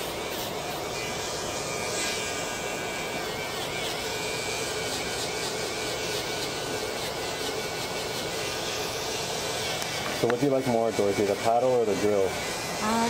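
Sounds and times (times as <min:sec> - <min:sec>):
nail drill whining: 0:00.0 - 0:13.0
sanding hiss on skin: 0:00.0 - 0:13.0.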